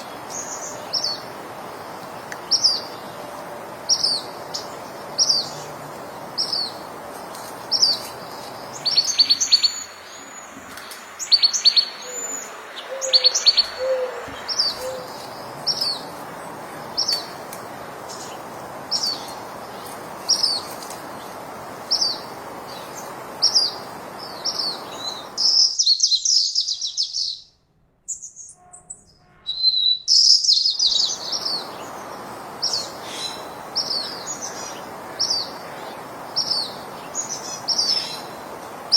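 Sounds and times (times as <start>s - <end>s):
steady background hiss: 0.0s - 27.3s, 30.1s - 38.9s
birds chirping: 0.0s - 38.9s.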